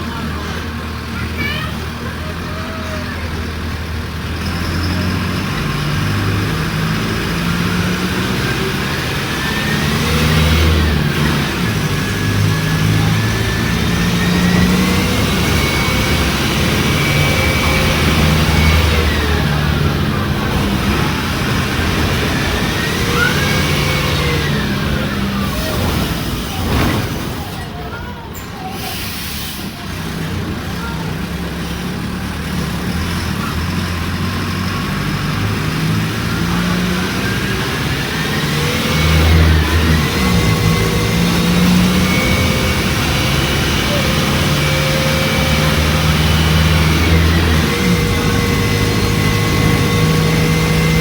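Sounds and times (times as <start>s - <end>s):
bus engine changing gear: 0.0s - 51.0s.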